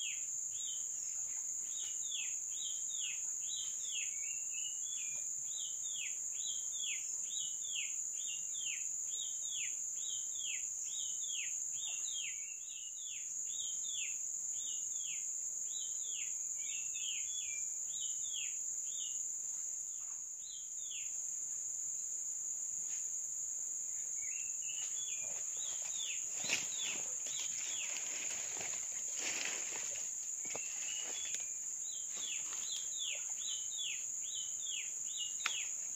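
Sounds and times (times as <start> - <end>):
high insect drone: 0.0 - 35.9.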